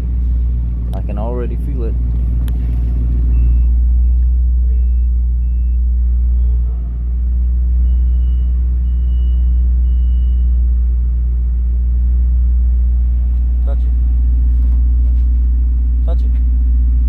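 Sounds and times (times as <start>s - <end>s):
engine idling drone: 0.0s - 17.0s.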